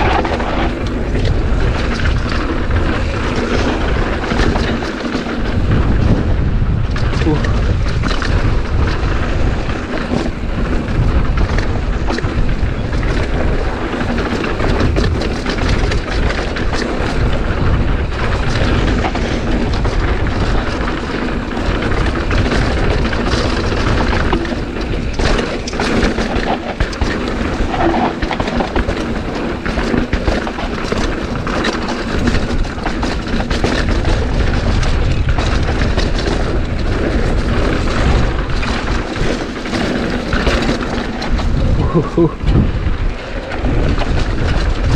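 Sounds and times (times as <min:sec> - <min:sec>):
bike clicks and rattles: 0:00.0 - 0:44.9
wind buffeting microphone: 0:00.0 - 0:44.9.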